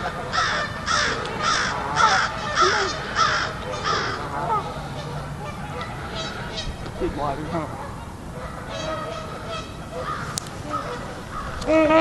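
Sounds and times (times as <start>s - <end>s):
harsh bird calls: 0.0s - 12.0s.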